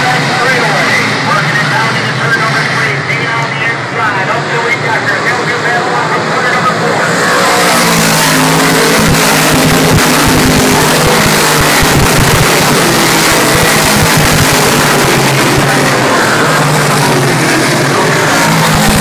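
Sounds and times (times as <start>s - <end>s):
race car engines roaring past: 0.0s - 19.0s.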